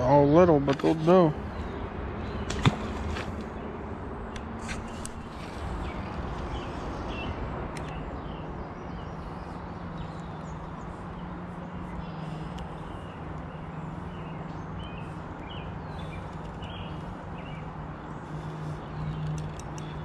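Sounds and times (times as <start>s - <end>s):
outdoor background noise: 0.0s - 20.0s
small birds chirping: 0.0s - 20.0s
steady low hum: 0.0s - 20.0s.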